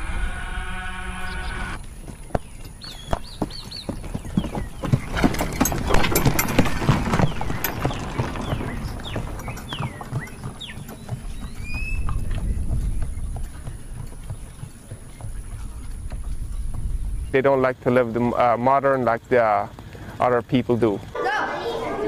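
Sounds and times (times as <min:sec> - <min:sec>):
buggy wheels rumbling: 0:00.0 - 0:22.0
horse hooves clip-clopping on dirt: 0:01.4 - 0:22.0.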